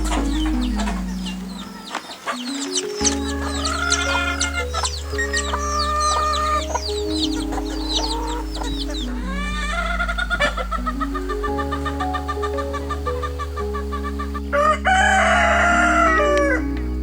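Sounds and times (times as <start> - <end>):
chickens clucking: 0.0 - 16.9
slow sustained chord music: 0.0 - 17.0
small birds chirping: 0.0 - 17.0.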